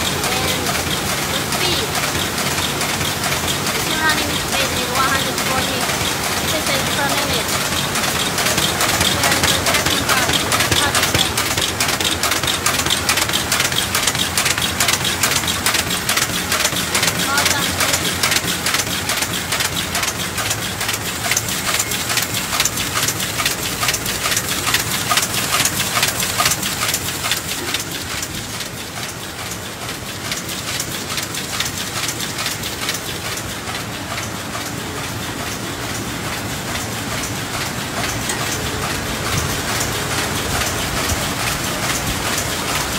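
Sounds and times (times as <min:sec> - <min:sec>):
paper bag machine clattering: 0:00.0 - 0:42.9.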